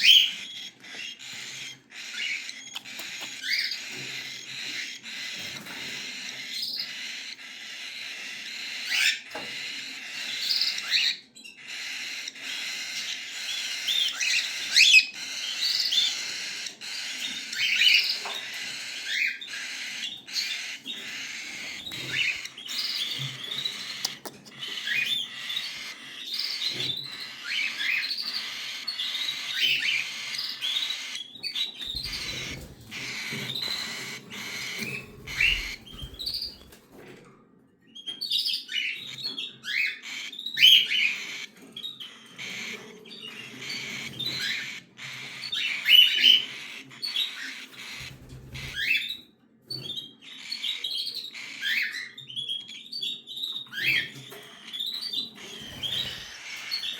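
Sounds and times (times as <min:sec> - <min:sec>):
cockatiel chicks chirping: 0:00.0 - 0:37.0, 0:37.9 - 0:56.9.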